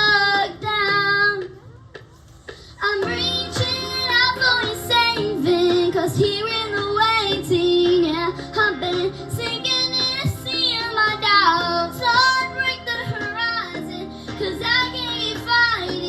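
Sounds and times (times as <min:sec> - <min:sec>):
instrumental backing music: 0:00.0 - 0:16.0.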